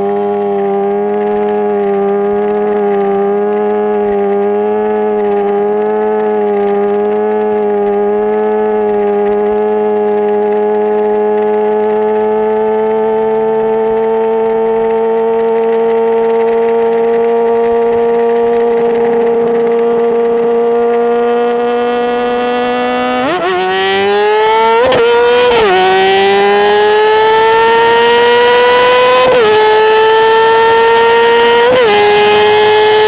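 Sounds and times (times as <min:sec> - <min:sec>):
motorcycle engine revving high: 0:00.0 - 0:33.0.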